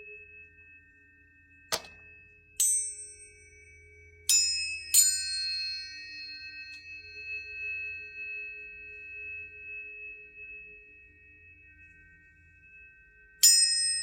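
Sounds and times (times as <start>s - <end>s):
tuning forks ringing: 0.0s - 14.0s.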